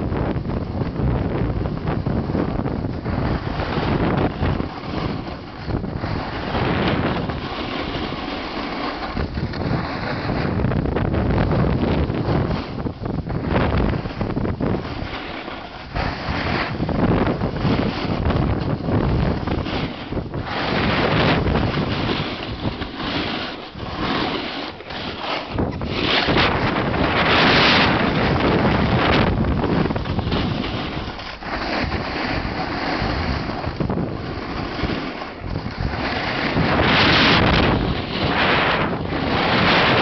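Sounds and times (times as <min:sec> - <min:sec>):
snowboard sliding over snow: 0:00.0 - 0:40.0
wind rushing over microphone: 0:00.0 - 0:40.0.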